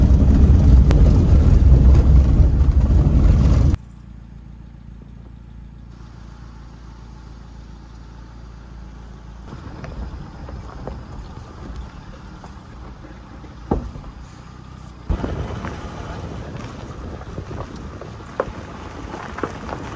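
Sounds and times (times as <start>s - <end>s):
road and wind noise: 0.0s - 4.1s, 4.9s - 19.9s
low engine hum: 0.0s - 19.9s.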